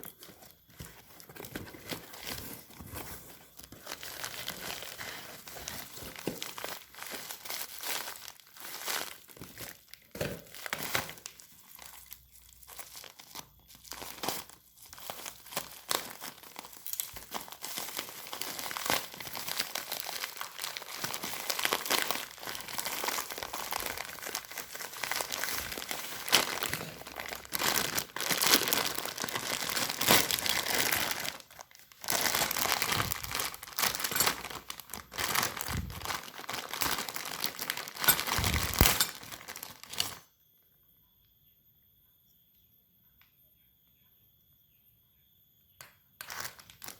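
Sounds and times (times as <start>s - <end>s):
plastic packaging crinkling: 0.0s - 40.2s, 46.2s - 46.9s.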